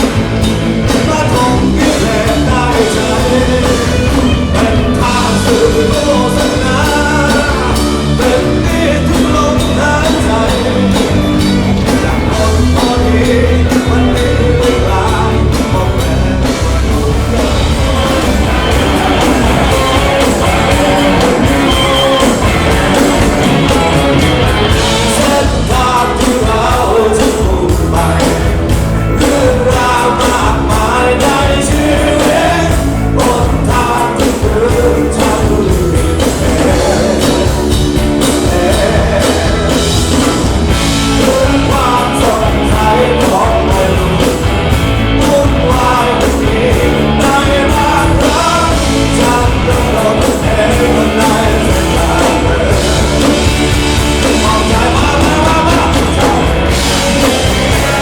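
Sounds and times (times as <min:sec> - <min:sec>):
live rock band with singer: 0:00.0 - 0:58.0.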